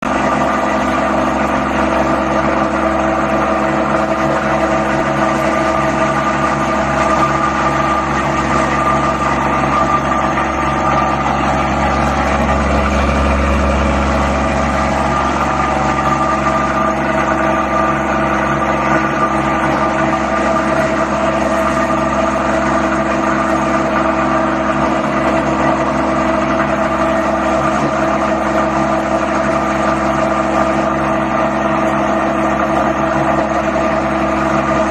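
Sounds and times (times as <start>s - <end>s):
machine motor hum: 0.1s - 34.9s.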